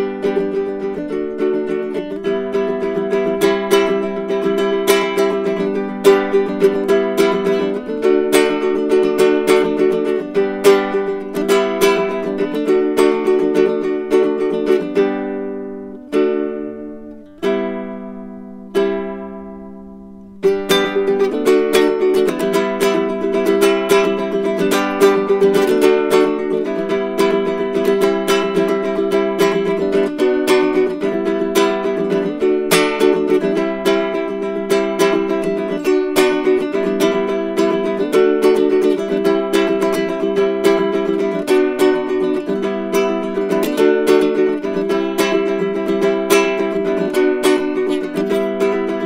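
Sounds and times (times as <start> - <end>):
ukulele chords and plucked notes: 0.0 - 49.0.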